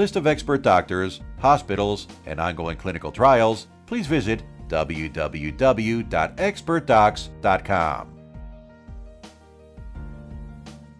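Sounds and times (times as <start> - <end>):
quiet background music: 0.0 - 10.9.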